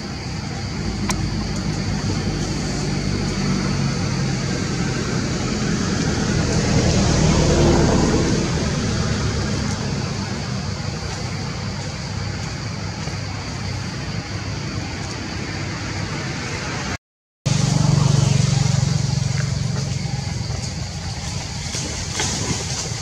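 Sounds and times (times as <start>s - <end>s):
low motor hum: 0.0s - 15.3s, 17.5s - 23.0s.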